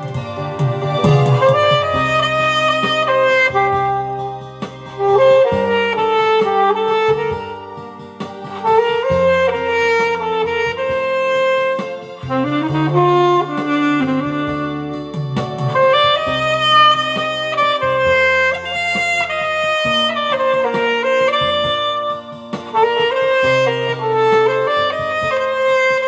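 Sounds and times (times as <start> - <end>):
alto saxophone melody: 0.0 - 26.0
backing track with bass and chords: 0.0 - 26.0.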